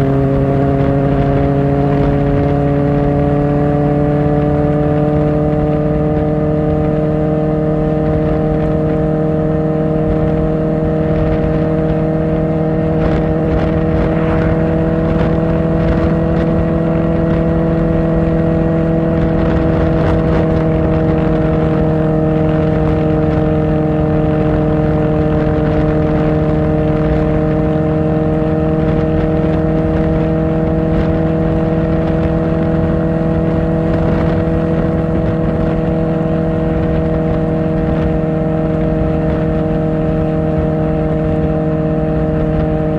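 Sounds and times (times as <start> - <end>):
motorcycle engine cruising: 0.0 - 42.9
wind and road noise: 0.0 - 42.9.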